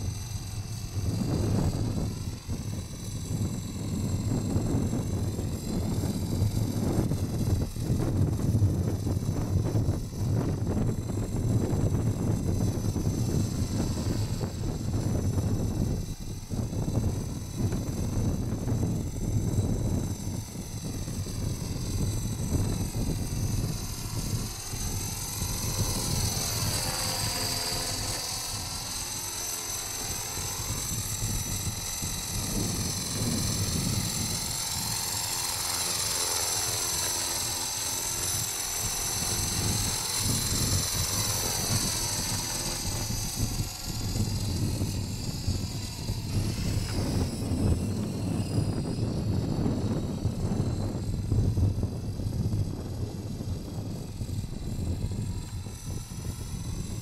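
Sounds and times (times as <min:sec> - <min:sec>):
rc helicopter motor whine: 0:00.0 - 0:57.0
wind buffeting microphone: 0:00.0 - 0:57.0.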